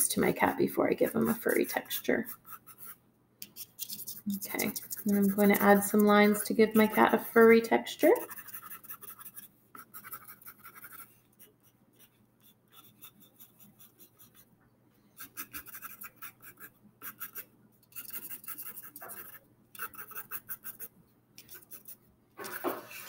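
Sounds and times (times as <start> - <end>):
pencil scratching on paper: 0.4 - 14.5, 15.2 - 23.0.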